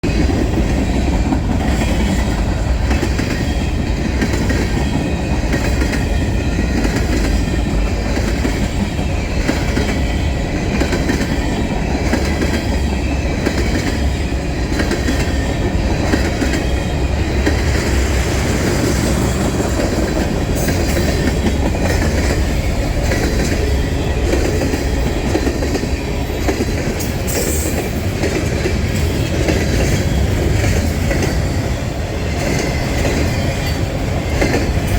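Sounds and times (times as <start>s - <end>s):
train wheels clacking over rail joints: 0.0s - 34.9s.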